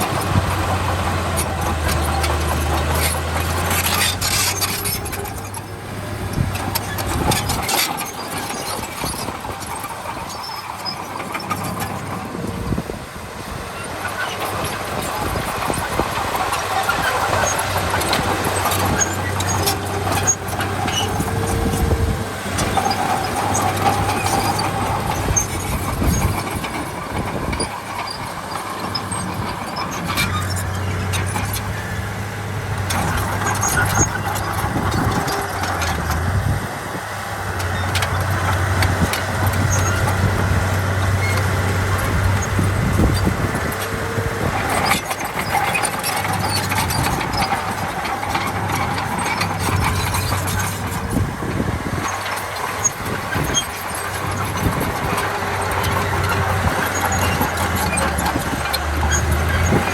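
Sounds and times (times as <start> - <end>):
diesel machinery engine: 0.0 - 59.9.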